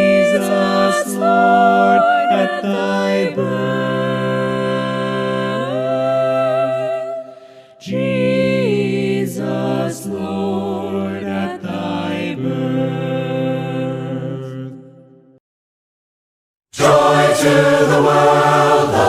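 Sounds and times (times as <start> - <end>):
voices singing a hymn: 0.0 - 14.8, 16.8 - 19.0.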